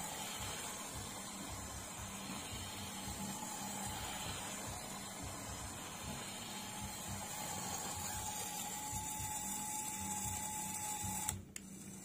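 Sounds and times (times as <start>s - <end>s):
toy truck motor whirring: 0.0s - 12.0s.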